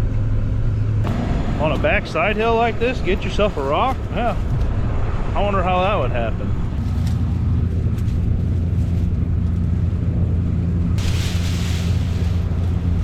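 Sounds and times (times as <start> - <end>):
combine harvester drone: 0.0 - 13.0
noisy rush: 0.0 - 13.0.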